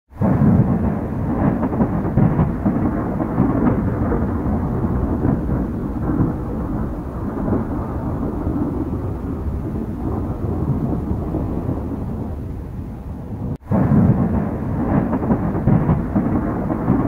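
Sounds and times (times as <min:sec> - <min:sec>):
wind buffeting microphone: 0:00.2 - 0:17.0.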